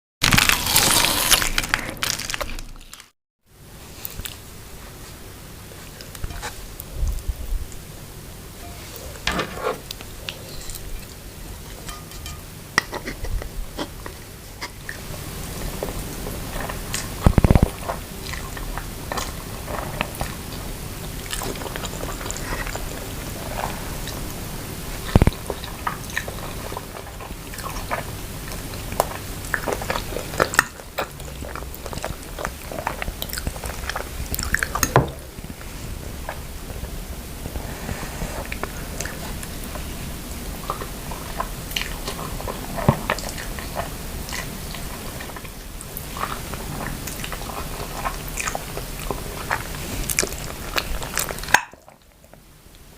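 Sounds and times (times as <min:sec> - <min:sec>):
close chewing and crunching: 0:00.2 - 0:03.2, 0:03.9 - 0:07.8, 0:08.6 - 0:52.9.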